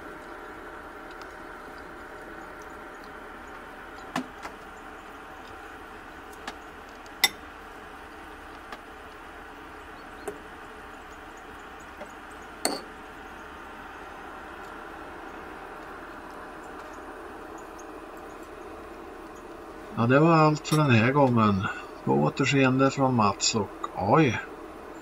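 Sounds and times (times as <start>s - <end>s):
steady hum with tones: 0.0s - 25.0s.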